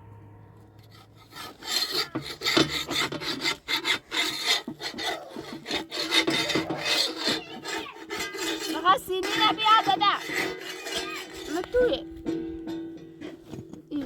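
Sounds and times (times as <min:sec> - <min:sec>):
rough scraping and rasping: 0:00.8 - 0:12.2.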